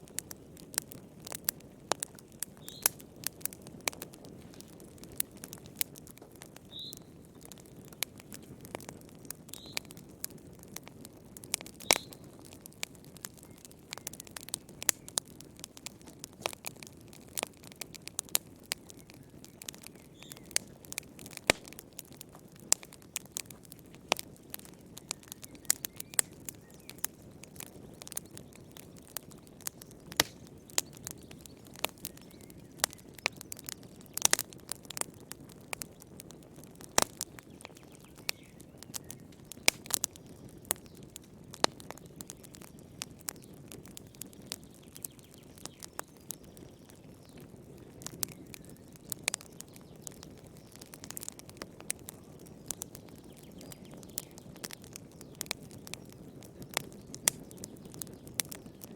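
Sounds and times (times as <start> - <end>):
low rush of flames: 0.0 - 44.6, 45.6 - 58.9
wood fire crackling: 0.0 - 58.9.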